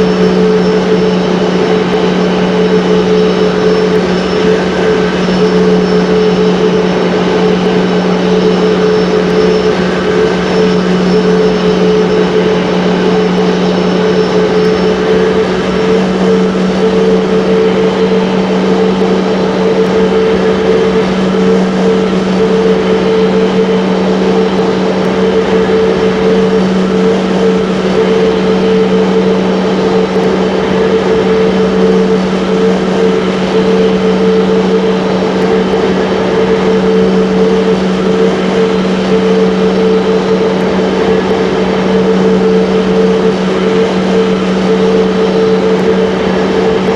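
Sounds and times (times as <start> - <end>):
high steady tone: 0.0 - 46.9
jet engine and airflow rush: 0.0 - 46.9.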